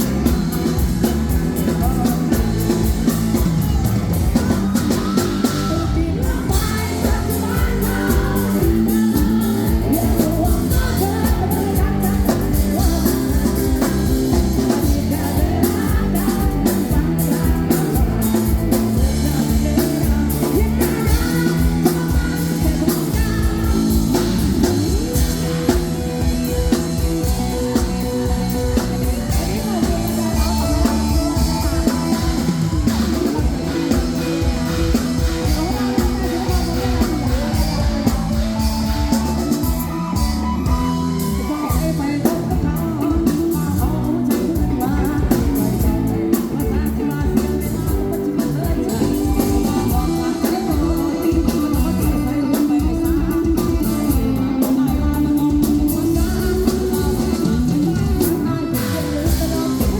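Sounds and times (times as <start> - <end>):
person singing: 0.0 - 59.9
rock band playing: 0.0 - 59.9.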